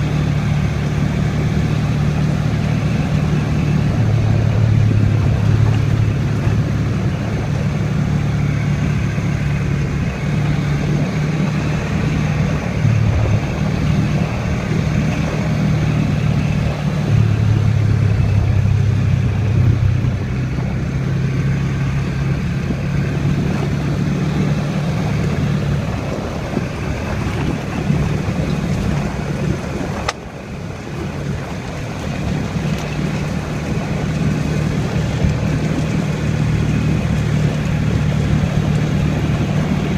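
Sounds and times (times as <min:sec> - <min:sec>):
atv engine running: 0:00.0 - 0:39.9
tyres on dirt: 0:00.0 - 0:39.9
wind noise: 0:00.0 - 0:39.9.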